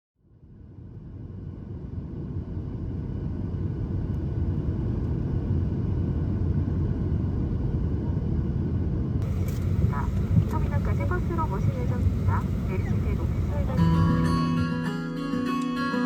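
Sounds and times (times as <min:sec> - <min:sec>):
airliner cabin rumble: 0:01.1 - 0:14.3.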